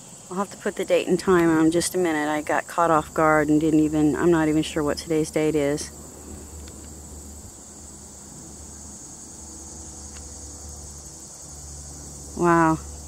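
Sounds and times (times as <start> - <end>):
high-pitched insect chorus: 0.0 - 13.0
low steady hum: 0.0 - 13.0.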